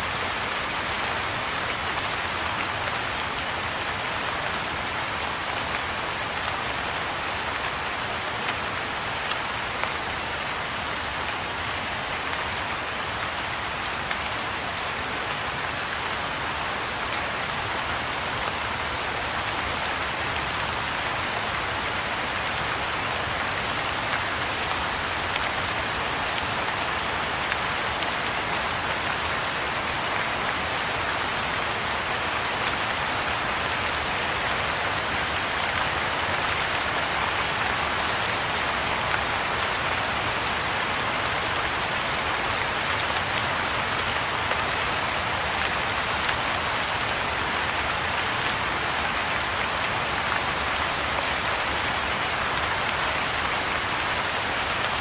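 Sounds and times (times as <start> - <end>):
rain falling on a pond: 0.0 - 55.0.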